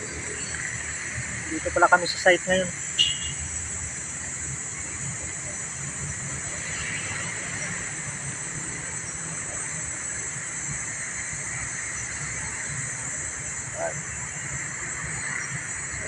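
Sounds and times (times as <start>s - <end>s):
high whine: 0.0s - 16.0s
outdoor background hiss: 0.0s - 16.0s.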